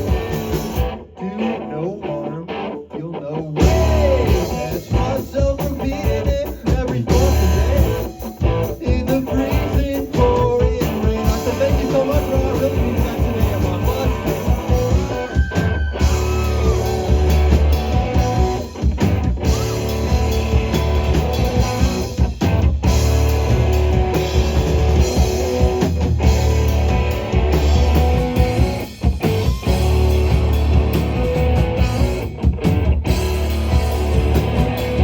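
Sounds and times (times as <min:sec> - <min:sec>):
drum kit: 0:00.0 - 0:01.0, 0:03.6 - 0:35.0
bass guitar: 0:00.0 - 0:35.0
electric guitar: 0:00.0 - 0:35.0.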